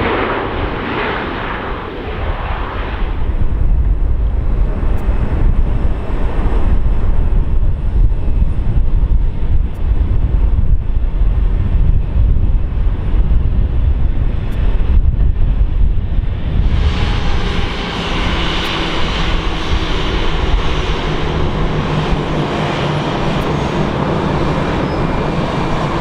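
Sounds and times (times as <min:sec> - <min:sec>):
jet engines rumbling: 0:00.0 - 0:26.0
wind on microphone: 0:00.0 - 0:26.0.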